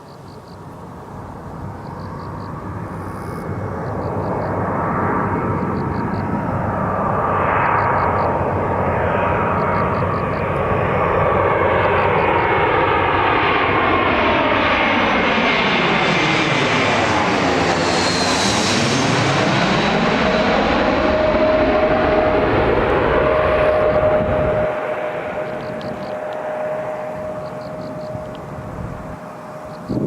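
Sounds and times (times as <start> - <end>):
jet airliner flying past: 0.1 - 30.0
steady whine: 1.0 - 30.0.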